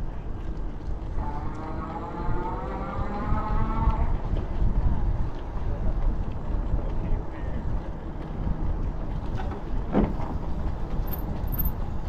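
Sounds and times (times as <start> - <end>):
wind buffeting microphone: 1.9 - 12.0.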